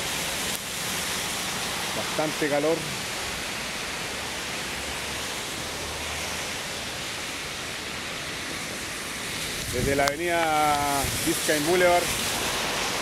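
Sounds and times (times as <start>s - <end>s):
heavy rain on street: 0.0s - 13.0s.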